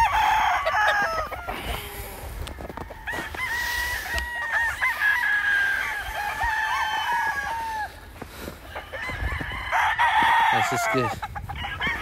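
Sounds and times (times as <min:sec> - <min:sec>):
roosters crowing: 0:00.0 - 0:12.0.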